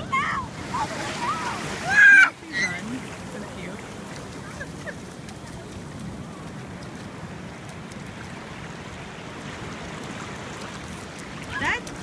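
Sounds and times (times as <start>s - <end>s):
waves washing on beach: 0.0s - 12.0s.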